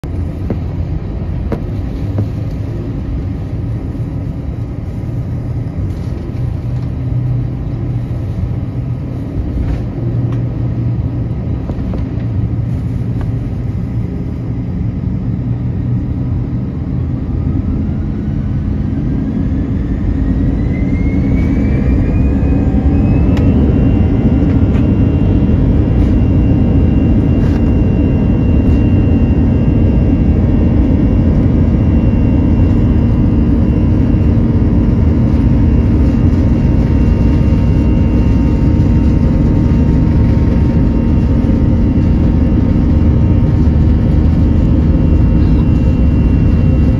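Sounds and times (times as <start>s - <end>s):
jet engine whine rising: 0.0s - 46.9s
jet engines rumbling: 0.0s - 46.9s.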